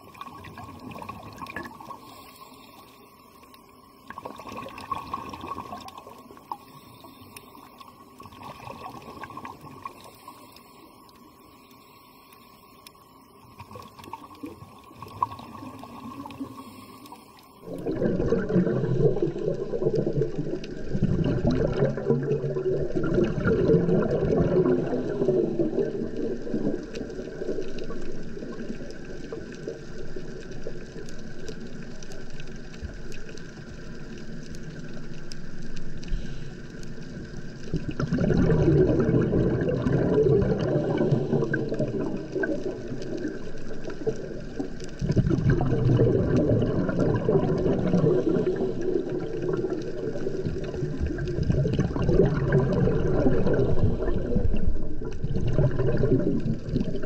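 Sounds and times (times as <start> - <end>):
underwater bubbling from diver exhaling: 0.0 - 2.9, 4.0 - 10.5, 13.5 - 16.9, 17.6 - 57.0.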